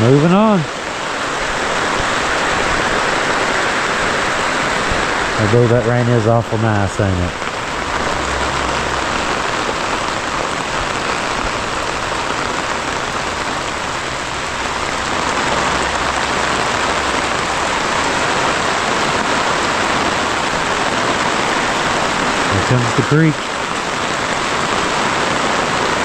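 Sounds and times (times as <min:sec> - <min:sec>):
torrential rain pouring: 0:00.0 - 0:26.0.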